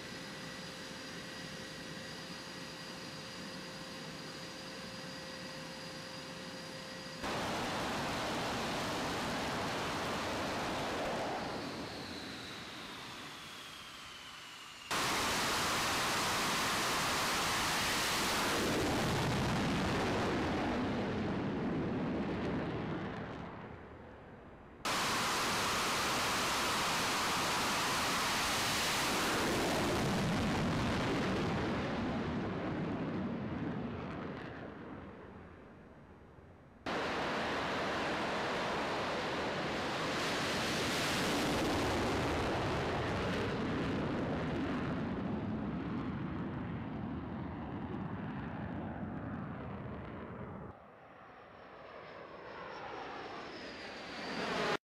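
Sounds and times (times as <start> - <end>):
jet engines at full power: 0.0 - 54.8.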